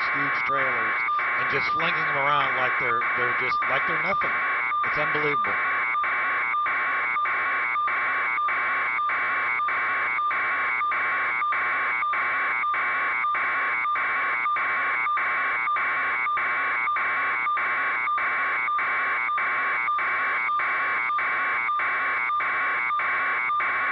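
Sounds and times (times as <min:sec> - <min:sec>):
pulsing alarm buzzer: 0:00.0 - 0:23.9.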